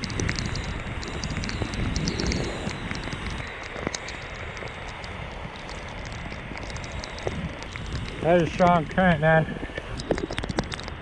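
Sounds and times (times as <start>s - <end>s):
raindrops ticking on boat: 0.0s - 11.0s
wind: 0.0s - 11.0s.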